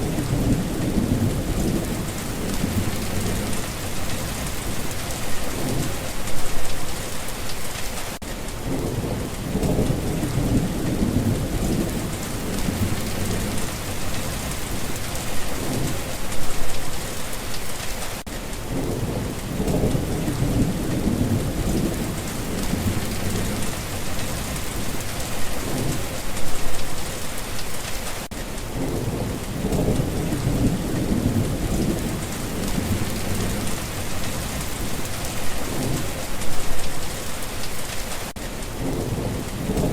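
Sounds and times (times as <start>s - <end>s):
thunder rumbling: 0.0s - 7.0s, 8.6s - 17.2s, 18.6s - 27.2s, 28.6s - 38.0s, 38.7s - 39.9s
heavy rain falling: 0.0s - 39.9s.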